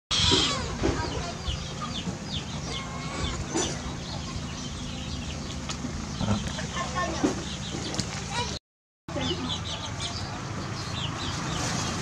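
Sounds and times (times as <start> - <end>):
birds chirping: 0.4 - 12.0.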